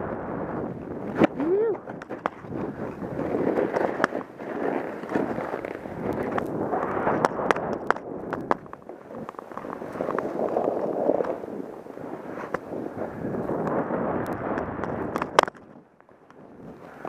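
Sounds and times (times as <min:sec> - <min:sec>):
snowboard rushing through powder: 0:00.1 - 0:08.3, 0:08.9 - 0:15.1, 0:16.5 - 0:17.0.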